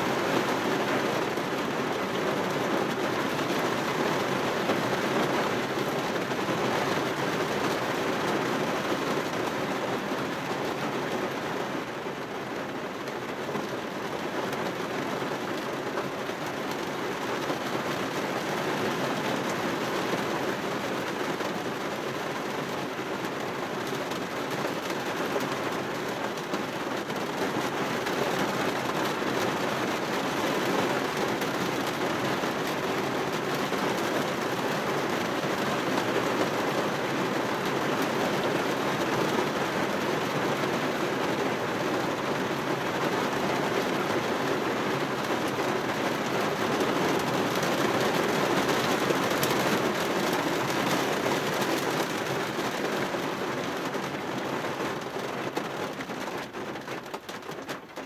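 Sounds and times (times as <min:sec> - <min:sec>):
rain on a car window: 0:00.0 - 0:58.0.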